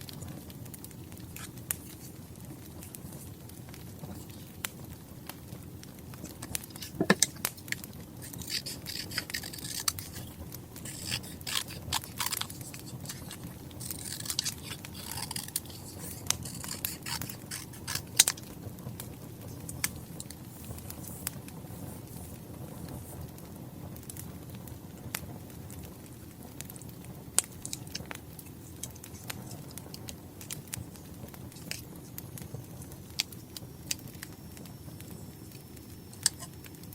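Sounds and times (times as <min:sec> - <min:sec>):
log fire crackling: 0:00.0 - 0:36.9.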